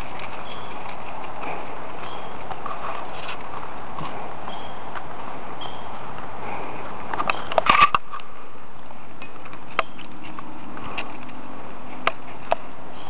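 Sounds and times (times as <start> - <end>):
footsteps on leafy dirt path: 0.0 - 13.0.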